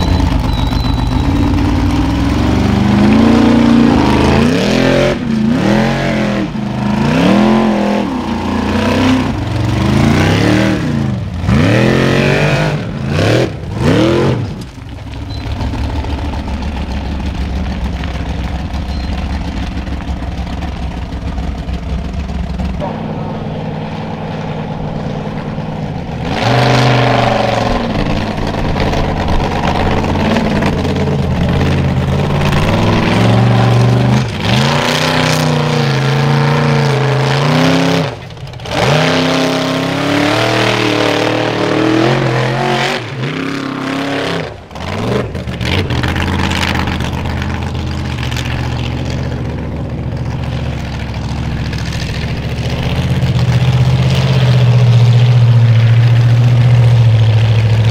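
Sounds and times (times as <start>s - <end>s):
buggy engine revving: 0.0s - 57.9s.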